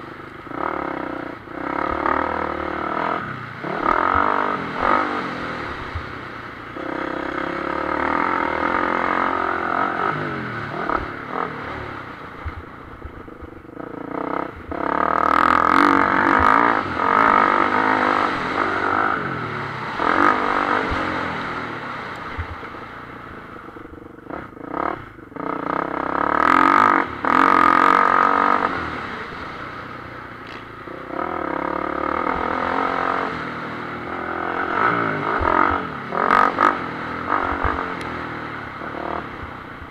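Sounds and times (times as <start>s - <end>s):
motocross bike engine revving: 0.4s - 12.6s, 13.2s - 29.6s, 30.4s - 39.9s.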